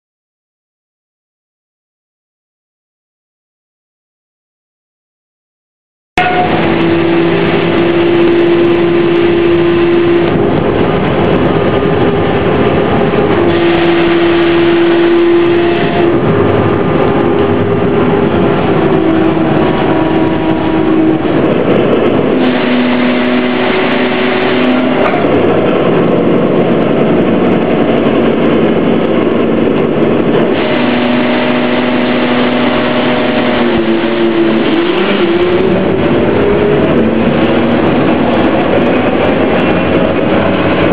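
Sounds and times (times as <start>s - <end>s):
continuous rushing noise: 6.2s - 40.9s
ferry engine running: 6.2s - 40.9s.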